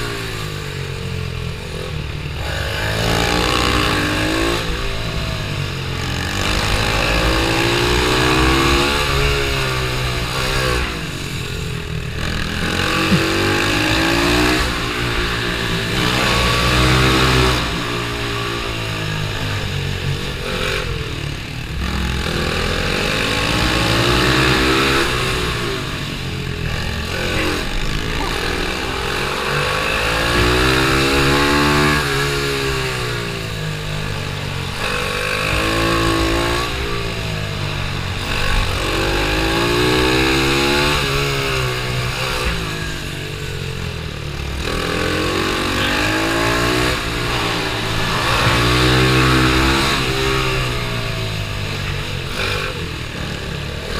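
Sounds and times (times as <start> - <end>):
motorbike engine accelerating: 0.0 - 53.9.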